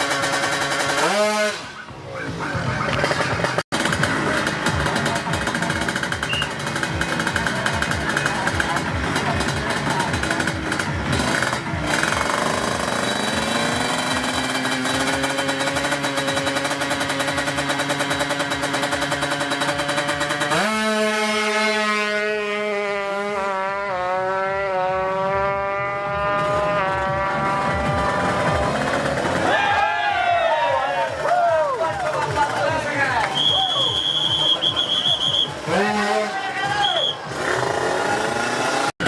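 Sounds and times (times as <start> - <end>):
two-stroke motorcycle engine revving: 0.0 - 29.8, 31.8 - 36.5, 37.1 - 39.0.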